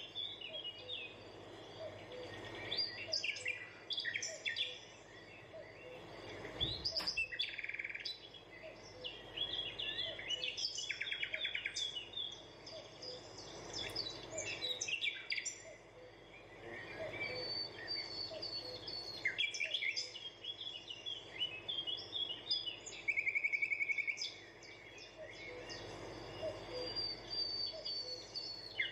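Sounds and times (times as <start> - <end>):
birds chirping and singing: 0.0 - 28.9
steady background hiss: 0.0 - 28.9.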